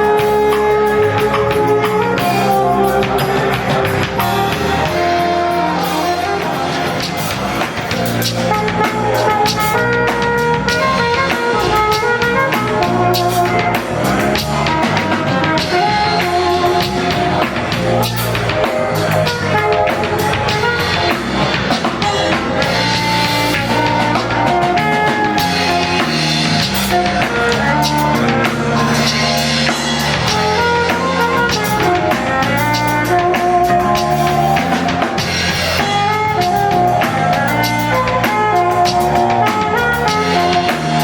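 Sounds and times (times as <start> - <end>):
drum kit beat: 0.0 - 41.0
live band playing: 0.0 - 41.0.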